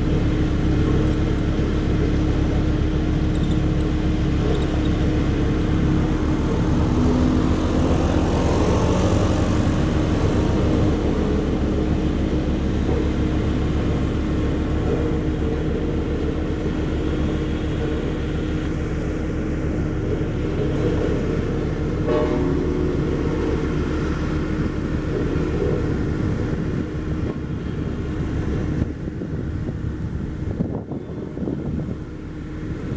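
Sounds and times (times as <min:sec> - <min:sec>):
road roller diesel engine: 0:00.0 - 0:32.9.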